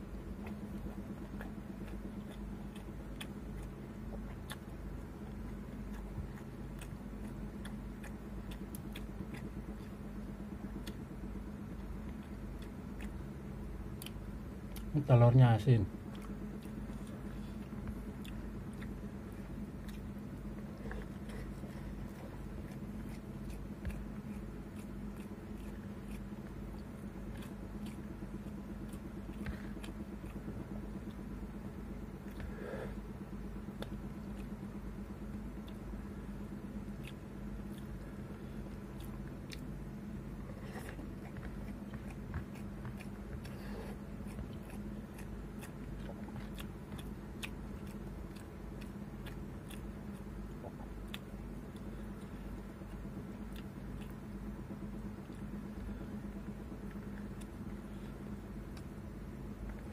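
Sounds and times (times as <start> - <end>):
steady low hum: 0.0 - 59.9
chewing and mouth smacks: 0.2 - 15.1, 15.9 - 59.9.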